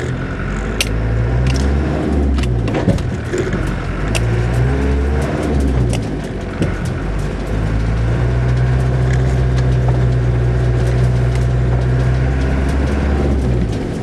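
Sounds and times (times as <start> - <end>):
vehicle engine from inside cab: 0.0 - 14.0
vehicle knocks and rattles: 0.0 - 14.0.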